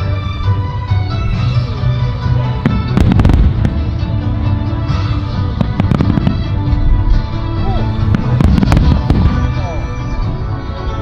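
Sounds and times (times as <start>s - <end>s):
fireworks bangs and crackles: 0.0s - 10.6s
background music with held tones: 0.0s - 11.0s.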